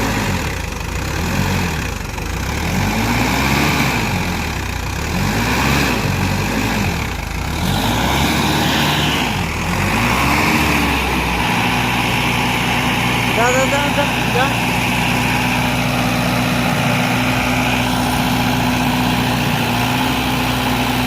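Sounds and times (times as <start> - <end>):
tractor diesel engine revving: 0.0 - 21.0.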